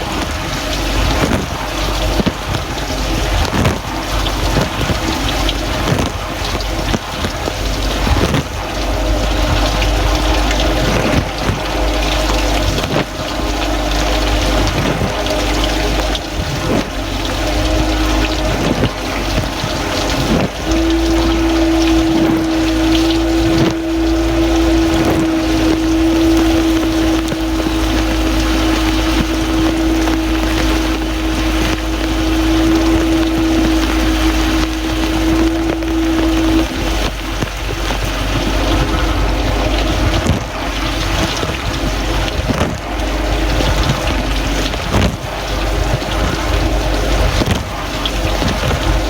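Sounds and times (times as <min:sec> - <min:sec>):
dishwasher pump humming: 0:00.0 - 0:49.0
water spraying on plastic: 0:00.0 - 0:49.0.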